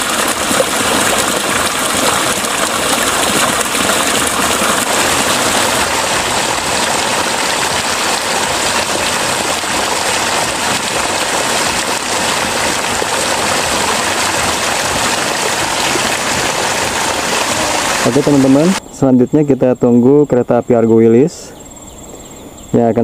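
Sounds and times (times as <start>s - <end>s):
water pouring into a pool: 0.0s - 18.8s.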